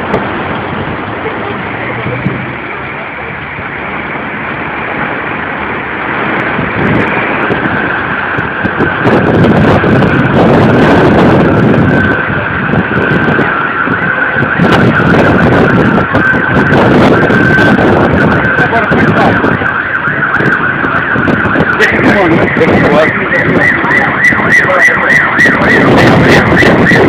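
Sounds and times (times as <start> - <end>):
storm wind buffeting microphone: 0.0 - 27.0.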